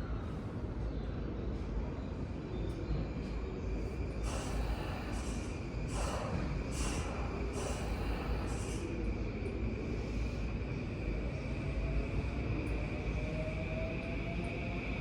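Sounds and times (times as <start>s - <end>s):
electric train low rumble: 0.0s - 15.0s.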